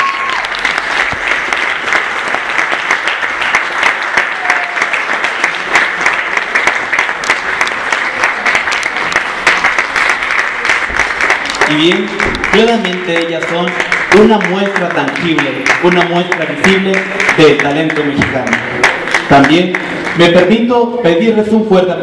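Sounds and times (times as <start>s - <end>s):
large audience applauding: 0.0s - 20.7s.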